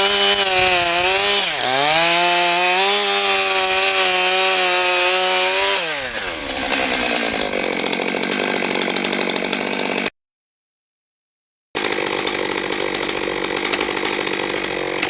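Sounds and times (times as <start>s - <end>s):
chainsaw cutting wood: 0.0s - 10.1s, 11.8s - 15.0s.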